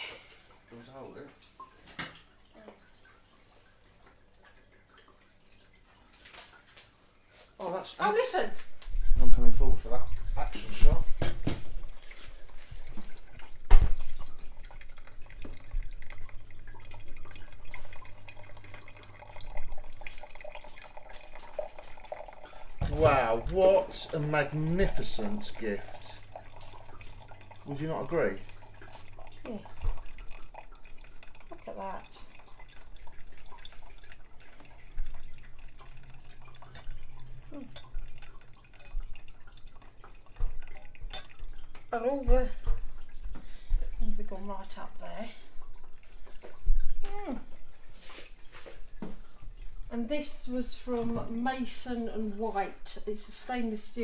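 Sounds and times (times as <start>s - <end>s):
water pouring onto coffee grounds: 4.5s - 54.0s.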